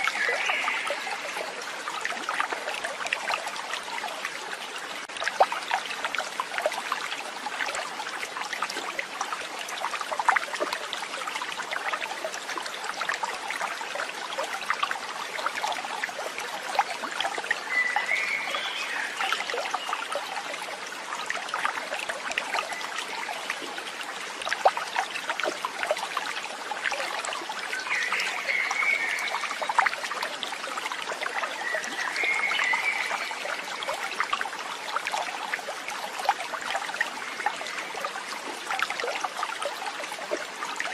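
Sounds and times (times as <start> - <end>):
water trickling in stream: 0.0 - 40.9.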